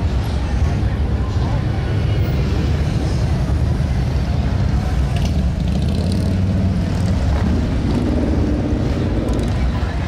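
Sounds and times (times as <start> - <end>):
motorcycle engines passing: 0.0 - 10.0.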